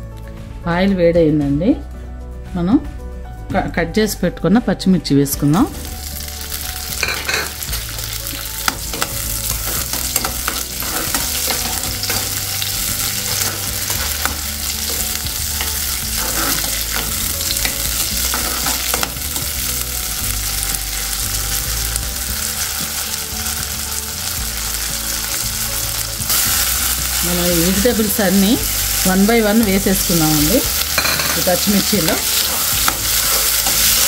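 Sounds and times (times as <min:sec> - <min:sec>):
chillies sizzling in hot oil: 0:05.2 - 0:34.0.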